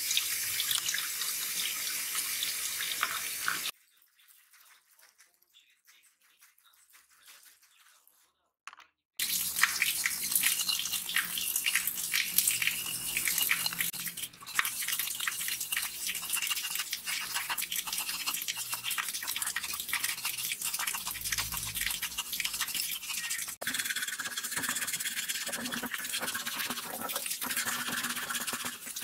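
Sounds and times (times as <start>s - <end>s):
brush scrubbing wet metal: 3.7s - 8.4s, 9.6s - 29.0s.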